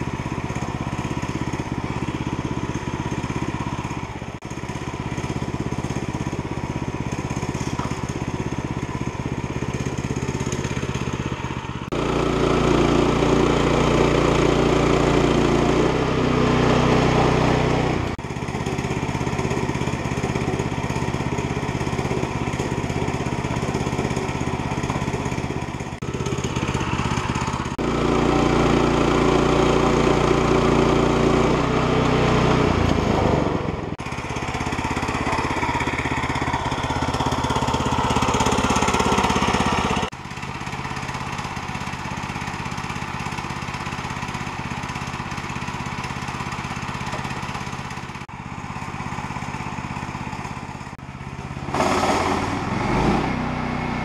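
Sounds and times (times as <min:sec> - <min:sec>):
sawmill gas engine running: 0:00.0 - 0:54.0.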